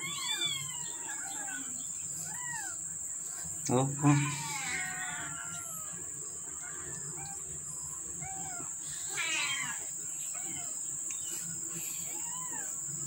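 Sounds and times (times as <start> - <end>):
kittens mewing: 0.0 - 2.9, 4.0 - 13.0
steady high-pitched whine: 0.0 - 13.0.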